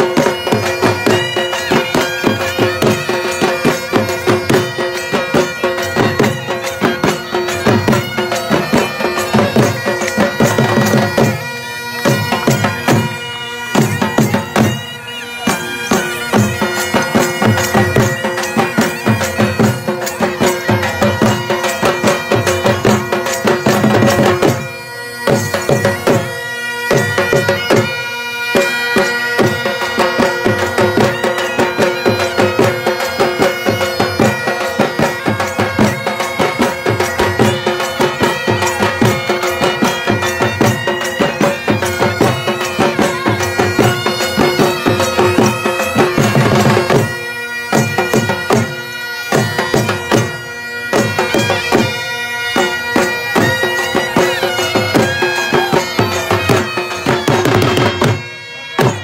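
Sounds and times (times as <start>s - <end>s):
reedy wind instrument melody: 0.0s - 59.0s
steady drum beat: 0.0s - 59.0s.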